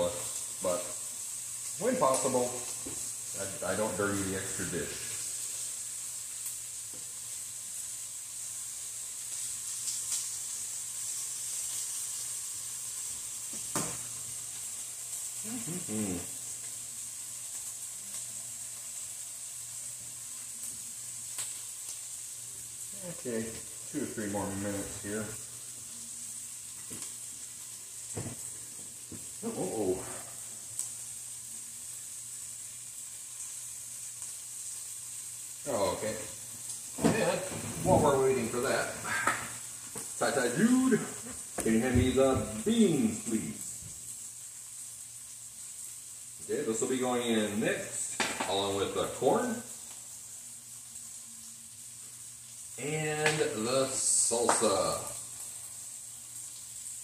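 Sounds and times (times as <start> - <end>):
meat sizzling in a frying pan: 0.0 - 57.0.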